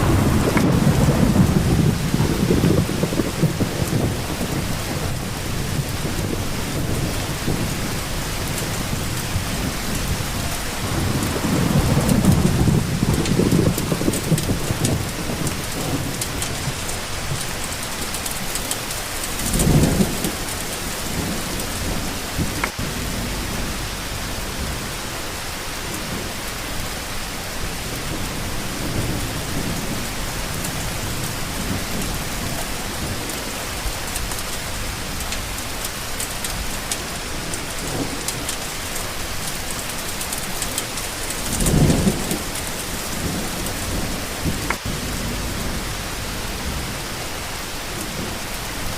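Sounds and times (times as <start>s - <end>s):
low rumbles: 0.0s - 38.4s, 40.6s - 48.9s
rain hissing: 0.0s - 48.9s.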